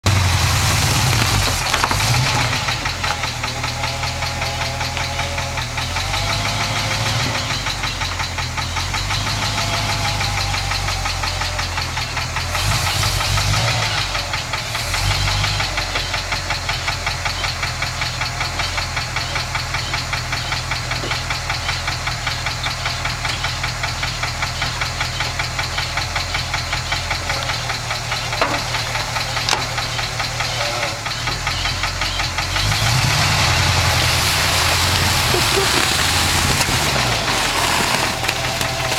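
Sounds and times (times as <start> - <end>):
engine running with rapid ticking: 0.0 - 38.9.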